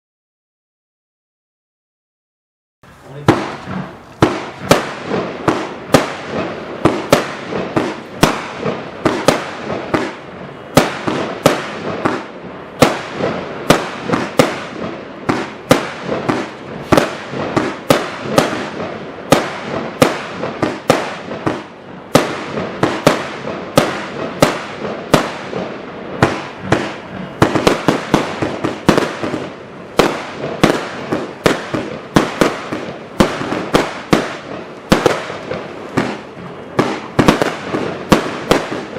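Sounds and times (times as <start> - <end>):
firework cake bangs: 3.1 - 38.9.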